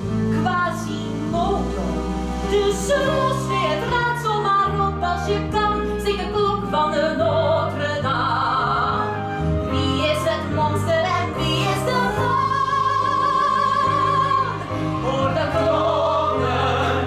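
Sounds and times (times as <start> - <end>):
piano: 0.0 - 17.0
woman singing operatically: 2.5 - 17.0.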